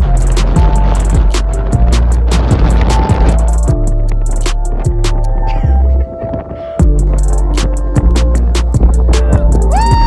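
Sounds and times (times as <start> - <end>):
sliding bass notes: 0.0 - 6.2, 6.8 - 10.0.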